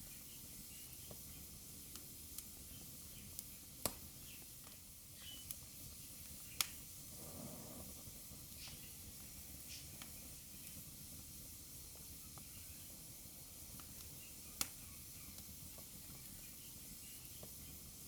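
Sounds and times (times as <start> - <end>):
wood fire burning: 0.0 - 18.0.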